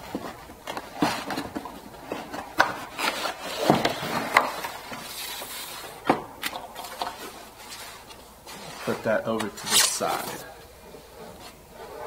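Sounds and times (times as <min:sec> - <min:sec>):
wrapping and cardboard rustling: 0:00.0 - 0:12.0.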